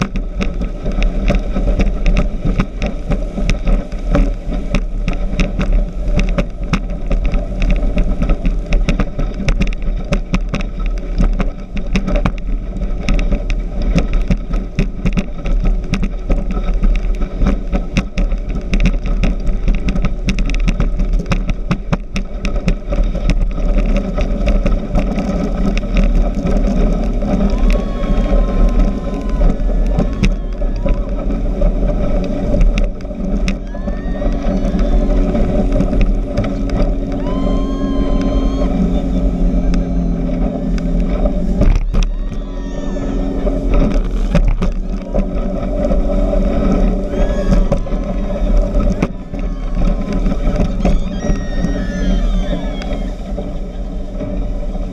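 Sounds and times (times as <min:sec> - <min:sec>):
hull knocking and buffeting: 0:00.0 - 0:54.9
speedboat engine rumble: 0:00.0 - 0:54.9.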